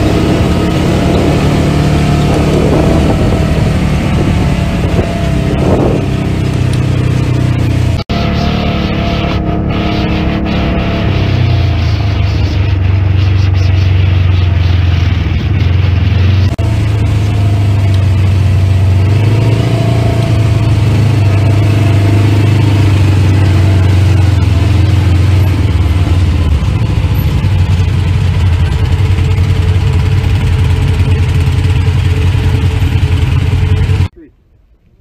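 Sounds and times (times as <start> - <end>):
broad rushing noise: 0.0 - 34.1
vehicle engine drone: 0.0 - 35.0.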